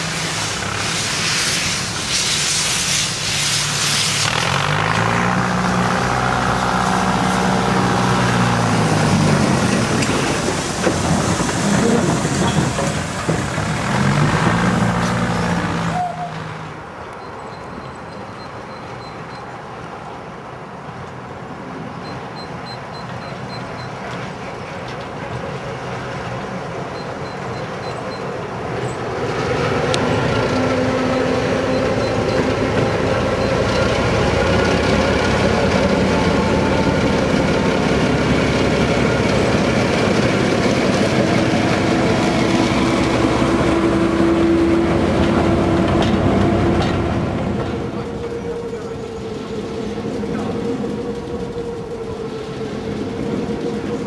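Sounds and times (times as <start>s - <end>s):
coaches rolling on rails: 0.0s - 54.0s
steam locomotive hauling train: 0.0s - 54.0s.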